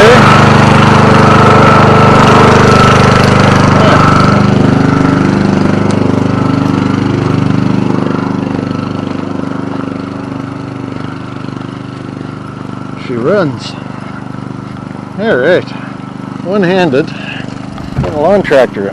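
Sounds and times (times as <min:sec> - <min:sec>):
high steady whine: 0:00.0 - 0:18.9
lawn tractor engine running: 0:00.0 - 0:18.9.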